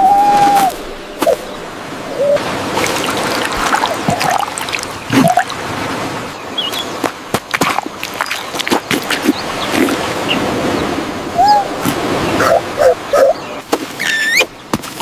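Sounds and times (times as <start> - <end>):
surf washing: 0.0 - 15.0.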